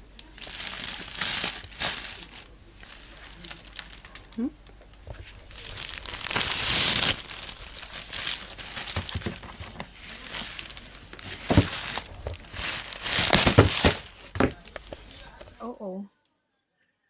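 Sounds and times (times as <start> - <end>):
package wrapping rustling: 0.2 - 15.6.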